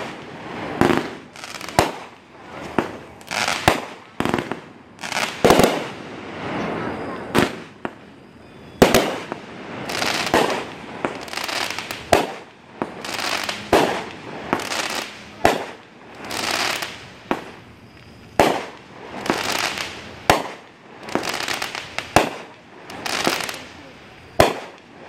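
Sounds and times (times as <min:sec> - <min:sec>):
fireworks crackling hiss: 0:00.0 - 0:25.0
fireworks sharp bangs: 0:00.0 - 0:25.0.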